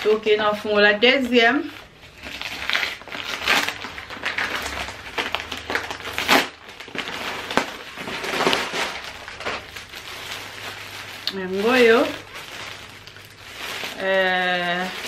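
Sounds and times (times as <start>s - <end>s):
paper bag rustling and crumpling: 0.0s - 15.0s
plastic wrap crinkling: 0.0s - 15.0s.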